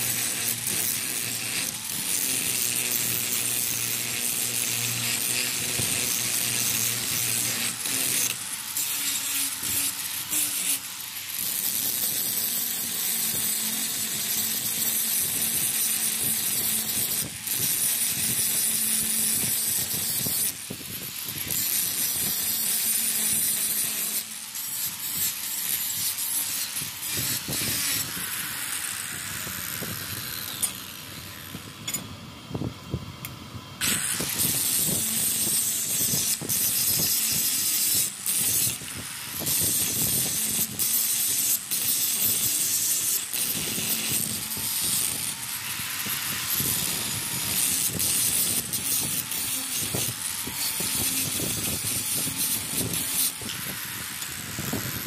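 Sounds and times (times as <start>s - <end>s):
power grinder grinding steel: 0.0s - 32.6s, 33.2s - 55.0s
faint motor hum: 0.0s - 55.0s.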